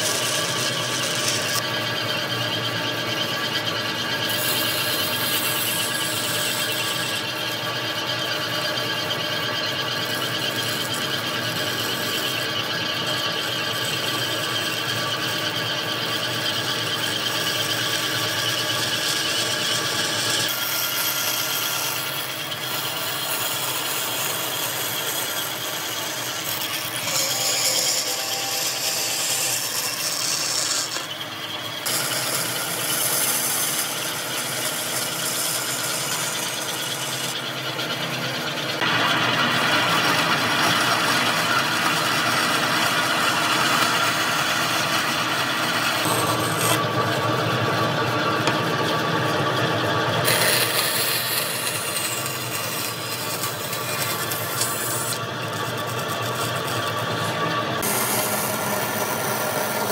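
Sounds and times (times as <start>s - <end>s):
power tool whining on wood: 0.0s - 59.9s.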